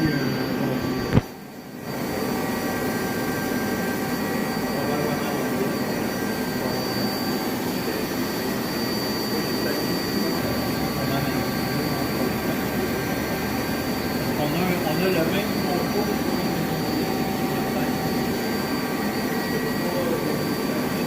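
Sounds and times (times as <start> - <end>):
high-pitched whines: 0.0 - 21.0
lathe whirring: 0.0 - 21.0.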